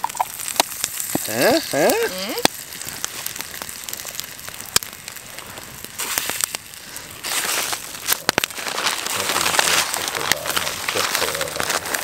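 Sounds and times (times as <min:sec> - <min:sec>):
campfire crackling: 0:00.0 - 0:12.0
dough frying in oil hissing: 0:00.0 - 0:12.0.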